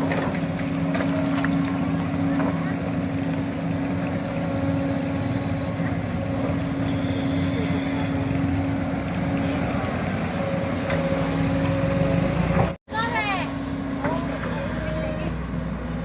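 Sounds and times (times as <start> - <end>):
excavator engine droning: 0.0 - 16.0.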